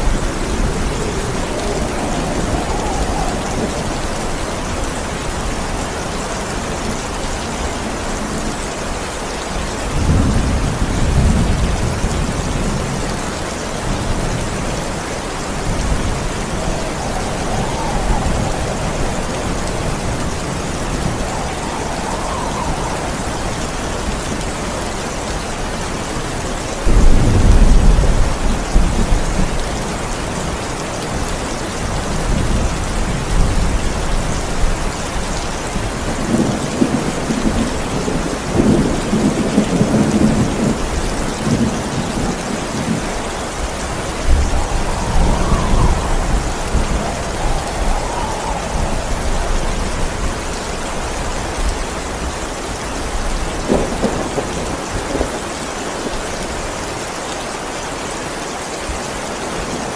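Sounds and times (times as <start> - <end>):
thunder rumbling: 0.0 - 56.8
heavy rain: 0.0 - 59.9.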